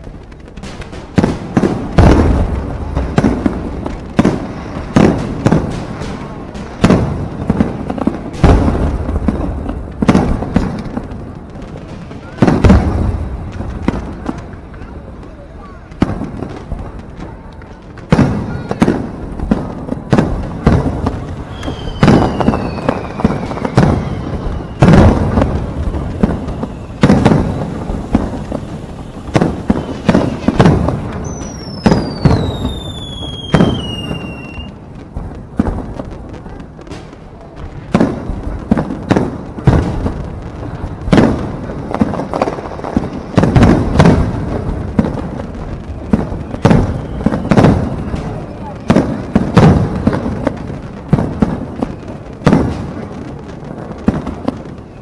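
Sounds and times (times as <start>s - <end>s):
fireworks bursts and booms: 0.0s - 55.0s
fireworks falling whistles: 0.0s - 55.0s.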